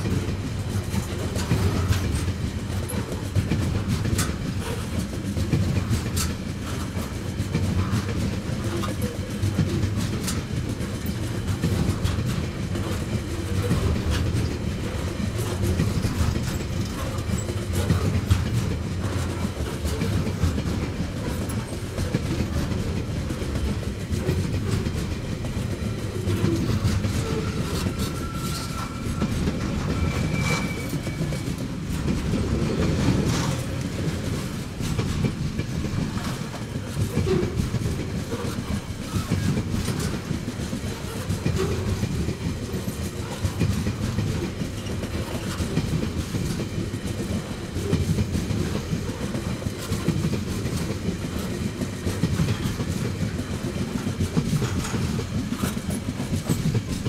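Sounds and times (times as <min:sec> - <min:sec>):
wheels clacking on rails: 0:00.0 - 0:57.0.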